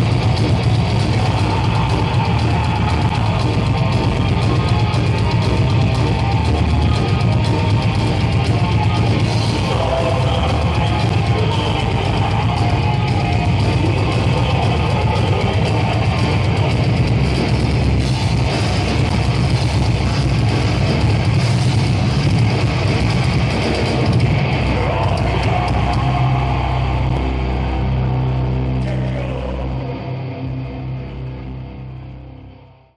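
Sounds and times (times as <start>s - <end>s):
heavy metal band playing live: 0.0s - 32.5s.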